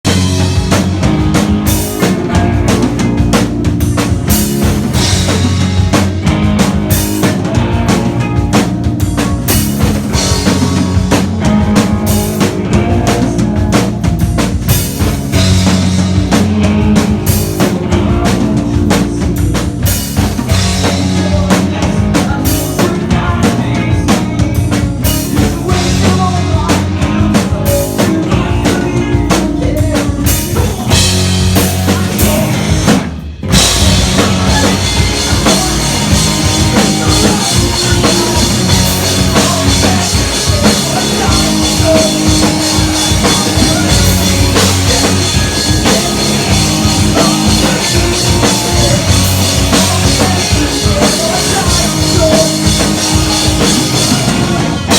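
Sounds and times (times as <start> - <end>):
drum kit hitting: 0.0 - 54.9
guitar and bass: 0.0 - 54.9.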